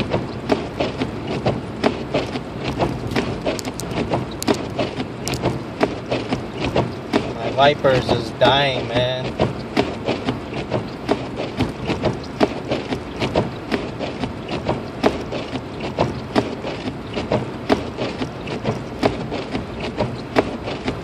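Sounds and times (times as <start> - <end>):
steady road rumble: 0.0 - 21.0
windshield wipers knocking and clicking: 0.0 - 21.0.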